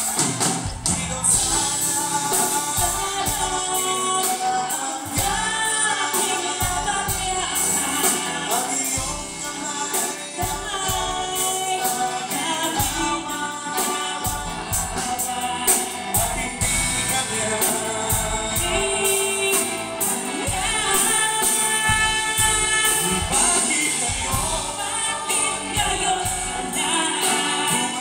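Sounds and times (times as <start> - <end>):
live rock band playing: 0.0 - 28.0
man singing: 0.0 - 28.0
woman singing: 0.8 - 28.0.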